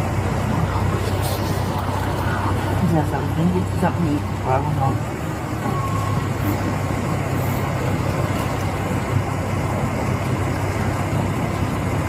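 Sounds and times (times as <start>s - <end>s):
car engine idling: 0.0s - 12.0s
faint road noise hiss: 0.0s - 12.0s.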